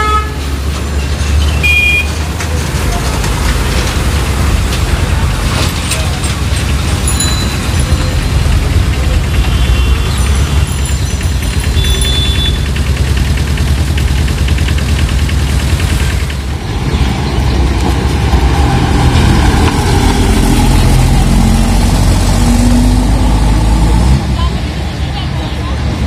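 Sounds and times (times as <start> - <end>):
street traffic: 0.0 - 26.0
truck diesel engine running: 0.2 - 26.0
tipper truck driving past: 0.4 - 26.0.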